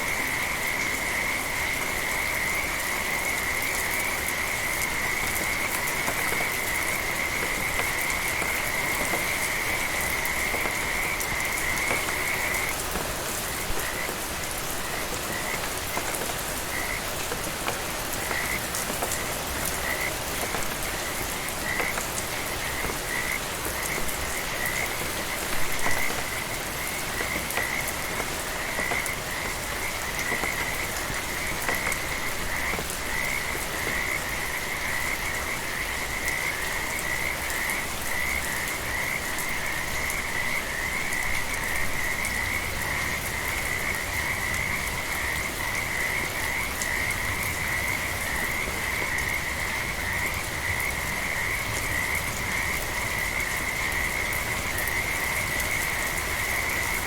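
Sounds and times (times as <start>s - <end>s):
rain hiss: 0.0s - 57.0s
frogs trilling: 0.1s - 57.0s.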